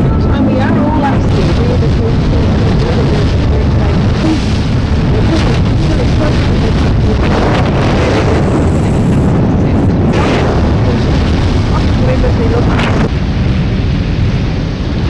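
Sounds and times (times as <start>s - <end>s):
faint voices: 0.0s - 13.1s
low engine rumble: 0.0s - 15.0s
wind buffeting microphone: 0.0s - 15.0s.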